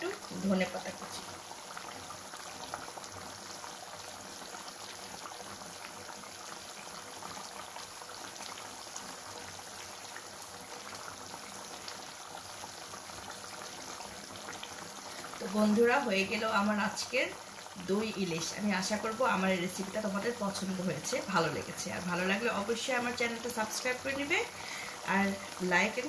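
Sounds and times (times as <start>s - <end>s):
curry bubbling in a pan: 0.0s - 26.0s.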